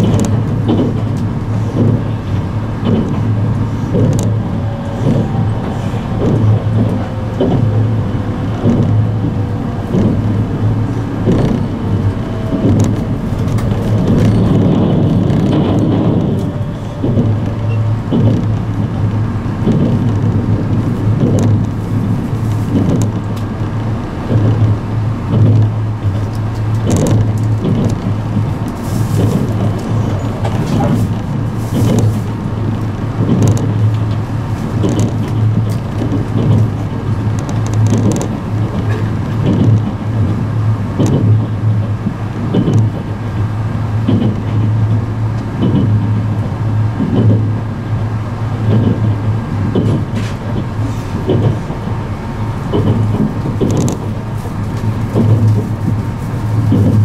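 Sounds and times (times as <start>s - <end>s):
train cabin hum: 0.0s - 57.0s
wheels clicking over rail joints: 0.0s - 57.0s.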